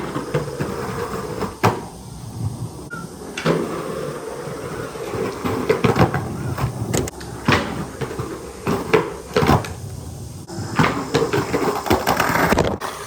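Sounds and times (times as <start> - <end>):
skateboard clacks: 0.0 - 13.0
skateboard rolling on concrete: 0.0 - 13.0.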